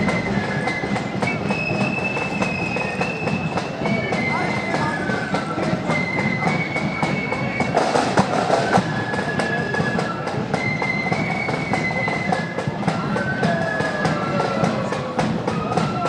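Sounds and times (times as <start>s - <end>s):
flutes playing a tune: 0.0s - 16.0s
snare and bass drumming: 0.0s - 16.0s.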